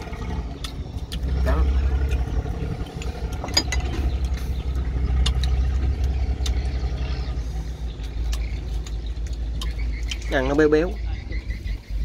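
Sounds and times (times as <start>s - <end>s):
boat engine throbbing hum: 0.0s - 12.0s.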